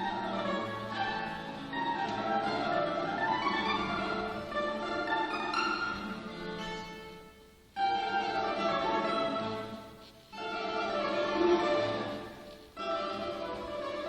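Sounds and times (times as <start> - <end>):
balalaika and guitar duet: 0.0 - 14.0.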